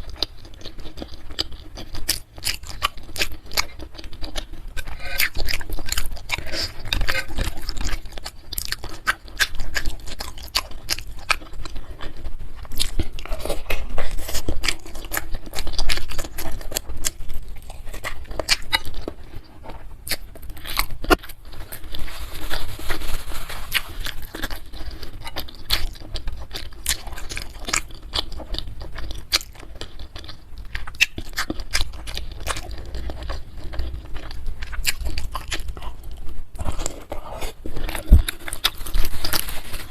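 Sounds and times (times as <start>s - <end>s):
wet chewing and smacking: 0.0s - 39.9s.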